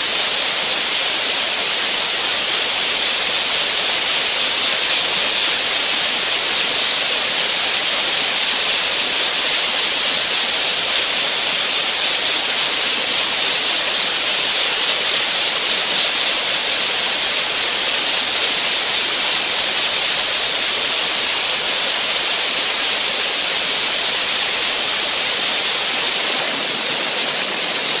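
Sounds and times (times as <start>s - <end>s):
compressed air blaster hissing: 0.0s - 28.0s.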